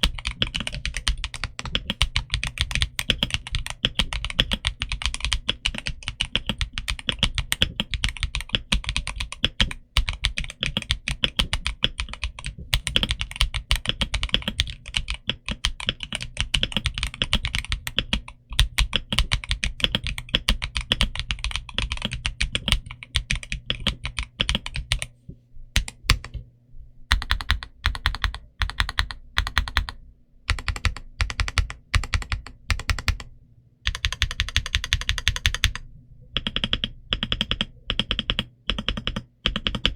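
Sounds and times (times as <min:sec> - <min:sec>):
mechanical keyboard typing: 0:00.0 - 0:25.1, 0:25.8 - 0:26.4, 0:27.1 - 0:39.9.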